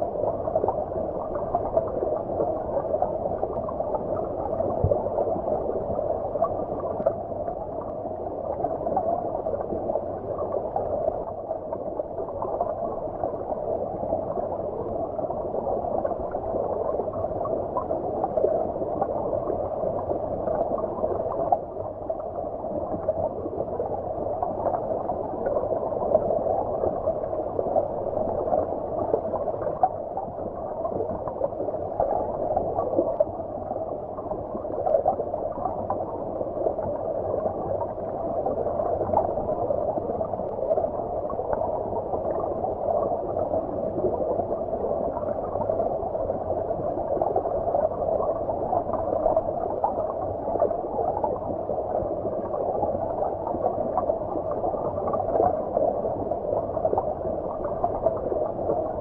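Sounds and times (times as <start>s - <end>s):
muffled underwater stream bubbling: 0.0s - 59.0s.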